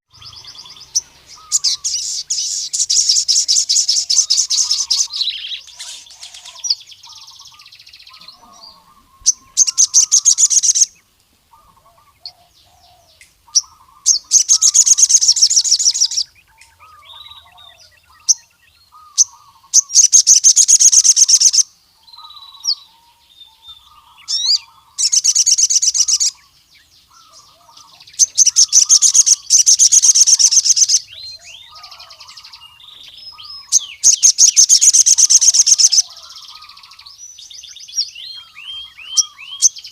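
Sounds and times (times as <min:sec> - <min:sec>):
bird singing rattling trills: 0:00.1 - 0:39.9.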